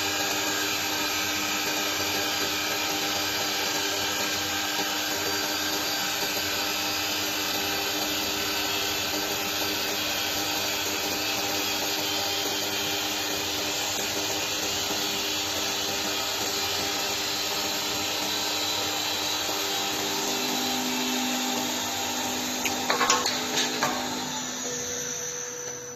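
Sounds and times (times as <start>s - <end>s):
lathe tool shaving wood: 0.0s - 25.9s
motor hum: 0.0s - 25.9s.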